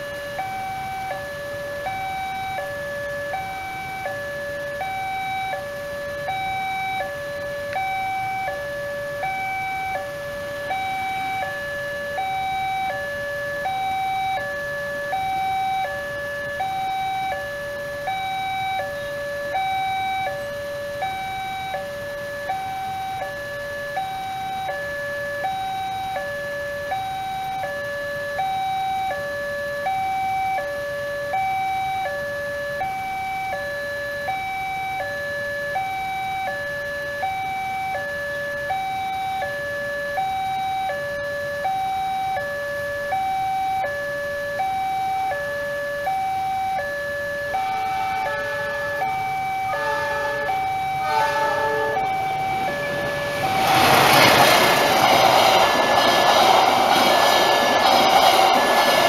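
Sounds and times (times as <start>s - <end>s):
two-tone electronic crossing alarm: 0.0s - 59.0s.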